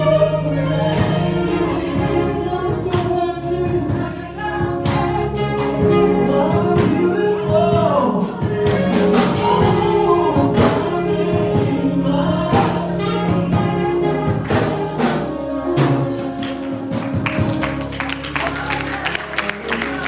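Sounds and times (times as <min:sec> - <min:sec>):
gospel choir singing: 0:00.0 - 0:20.0
instrumental accompaniment: 0:00.0 - 0:20.0
steady beat: 0:00.0 - 0:20.0.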